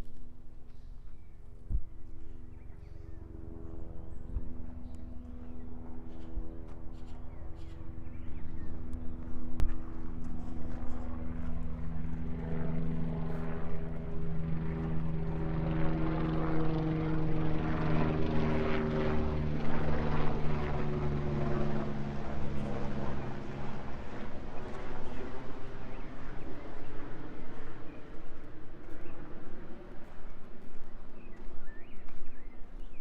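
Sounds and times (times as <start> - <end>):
aircraft engine drone: 0.0 - 33.0.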